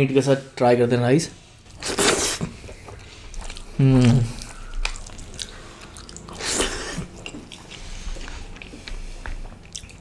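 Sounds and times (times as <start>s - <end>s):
person chewing food: 1.7s - 10.0s.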